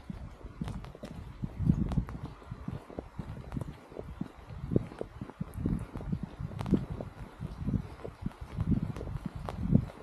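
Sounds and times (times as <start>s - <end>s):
footsteps on wet paving: 0.0s - 10.0s.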